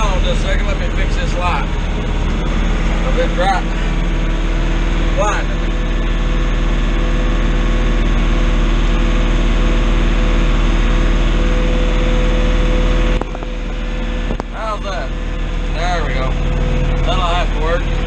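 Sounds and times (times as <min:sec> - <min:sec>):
constant whine: 0:00.0 - 0:18.0
tractor diesel engine running: 0:00.0 - 0:18.0.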